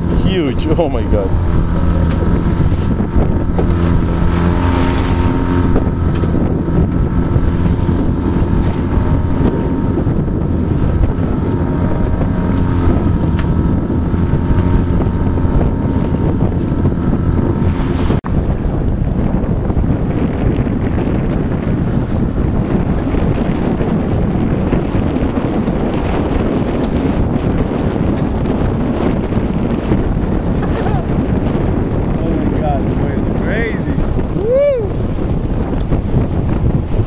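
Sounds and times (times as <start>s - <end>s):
boat motor running: 0.0s - 37.0s
water rushing around hull: 0.0s - 37.0s
wind buffeting microphone: 0.0s - 37.0s.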